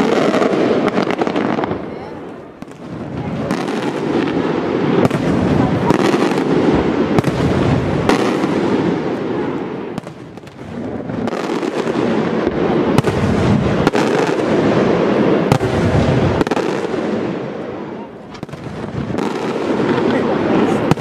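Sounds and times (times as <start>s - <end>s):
sharp firework bangs: 2.6s - 17.6s, 18.2s - 21.0s.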